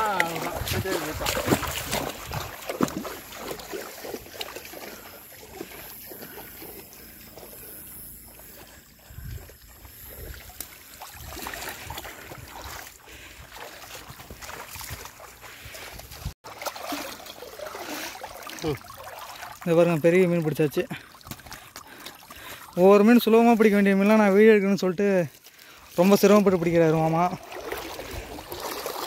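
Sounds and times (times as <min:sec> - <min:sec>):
river water splashing: 0:00.0 - 0:29.0.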